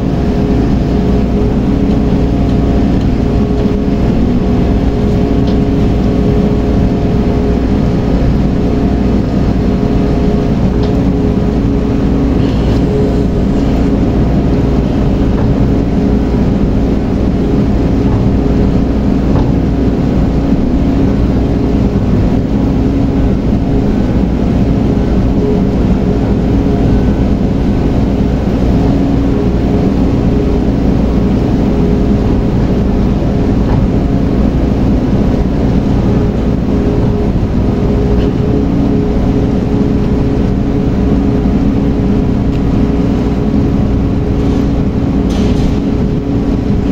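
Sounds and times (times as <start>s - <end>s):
large engine droning: 0.0s - 46.9s.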